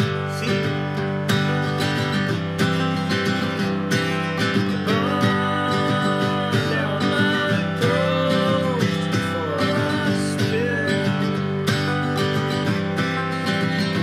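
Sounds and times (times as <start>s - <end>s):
acoustic guitar: 0.0s - 14.0s
resonator guitar gliding melody: 0.0s - 14.0s.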